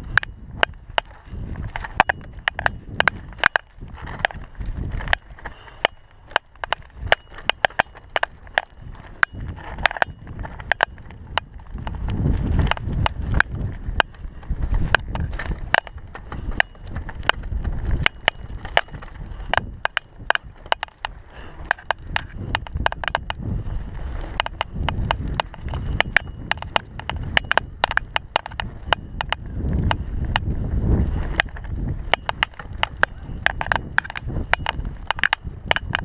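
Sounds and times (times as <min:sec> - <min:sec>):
bike clicks and rattles: 0:00.0 - 0:36.0
bike tyres rumbling on dirt: 0:00.0 - 0:36.0.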